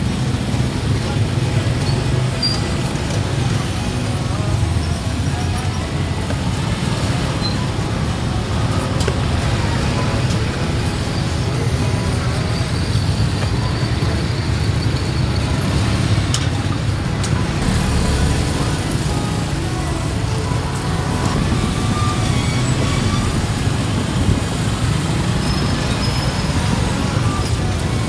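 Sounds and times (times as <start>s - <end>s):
faint music: 0.0s - 28.0s
street traffic rumble: 0.0s - 28.0s.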